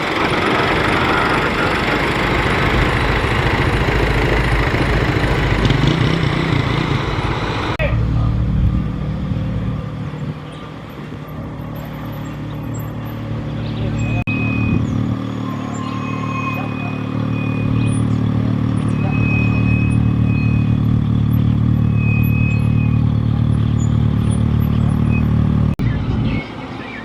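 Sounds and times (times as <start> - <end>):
tractor engine under load: 0.0 - 27.0.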